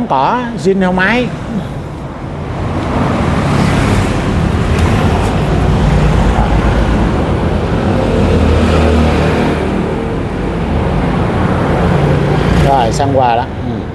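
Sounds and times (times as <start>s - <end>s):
road traffic engine hum: 0.0s - 13.9s.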